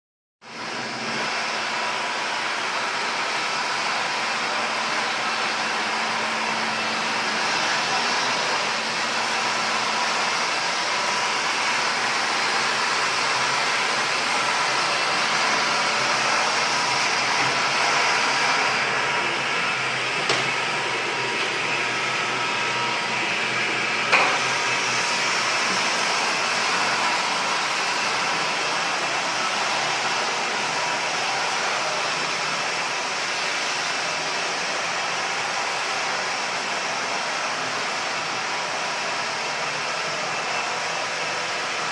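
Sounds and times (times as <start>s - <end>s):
floor-scrubbing machine running: 0.4s - 41.9s.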